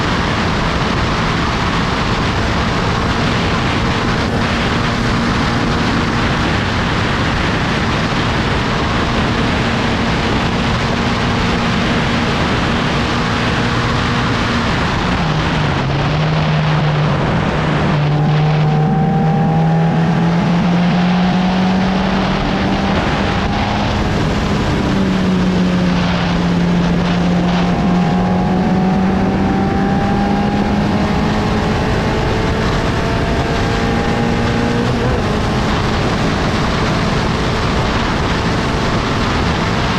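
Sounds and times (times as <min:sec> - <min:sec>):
heavy wind rush: 0:00.0 - 0:39.9
racing car engine: 0:00.0 - 0:39.9.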